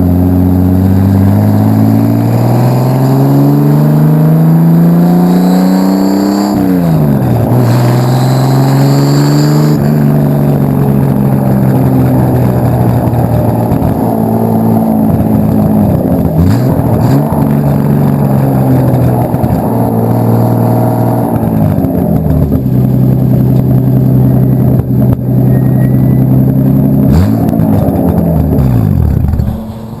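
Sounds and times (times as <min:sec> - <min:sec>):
loud car engine revving: 0:00.0 - 0:30.0.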